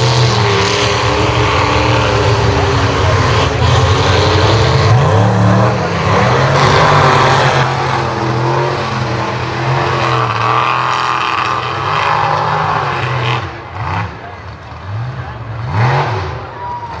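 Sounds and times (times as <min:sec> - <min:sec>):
truck engine revving high: 0:00.0 - 0:17.0.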